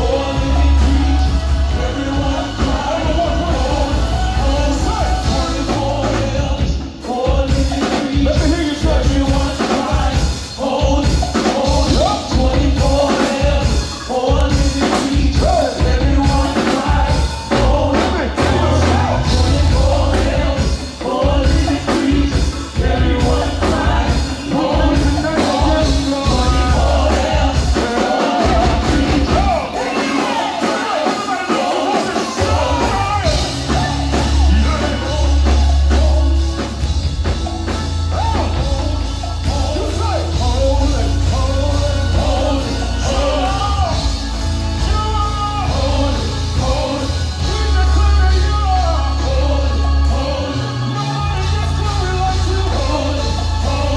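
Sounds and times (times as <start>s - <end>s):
gospel praise music: 0.0s - 53.9s.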